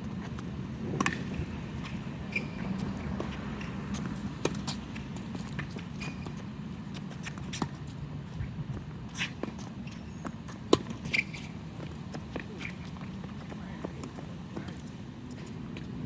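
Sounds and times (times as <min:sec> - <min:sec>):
shoes squeaking on court: 0:00.1 - 0:16.0.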